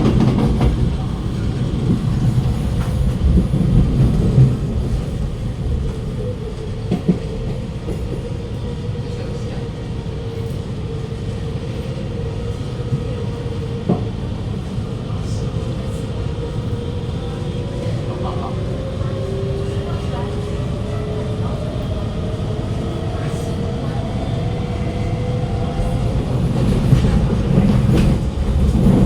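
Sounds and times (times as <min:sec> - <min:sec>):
metro train rumble: 0:00.0 - 0:29.0.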